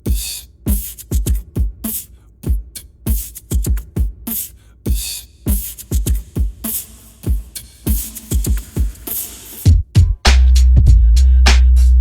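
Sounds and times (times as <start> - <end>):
electronic music with drum-machine beat: 0.0 - 11.0.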